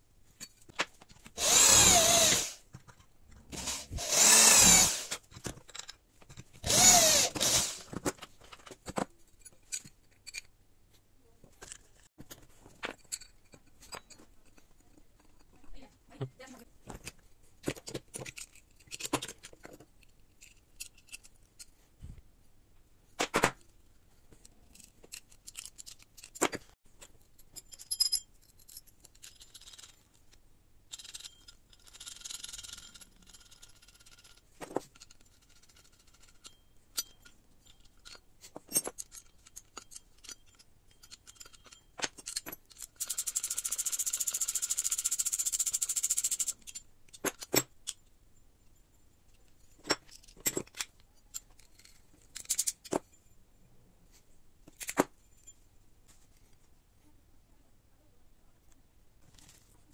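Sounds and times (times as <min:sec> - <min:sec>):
metal parts clicking and knocking: 0:00.3 - 0:10.6, 0:11.5 - 0:21.8, 0:23.2 - 0:53.4, 0:54.6 - 0:55.6.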